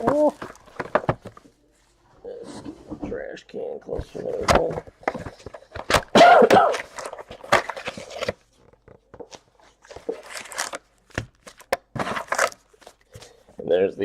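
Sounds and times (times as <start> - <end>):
cardboard rustling and scraping: 0.0 - 3.2, 3.9 - 6.1, 6.7 - 13.3.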